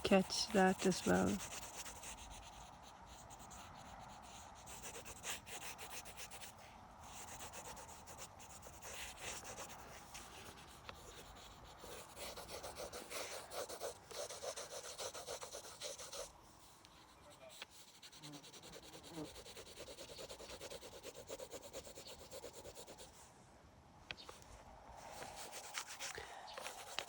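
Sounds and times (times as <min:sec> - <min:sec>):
pencil scratching on paper: 0:00.0 - 0:23.2, 0:25.1 - 0:27.0.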